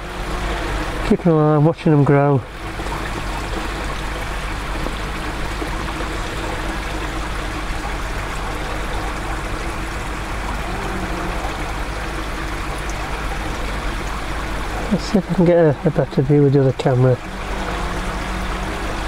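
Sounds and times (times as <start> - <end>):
low steady hum: 0.0 - 19.0
water trickling into tank: 0.0 - 19.0.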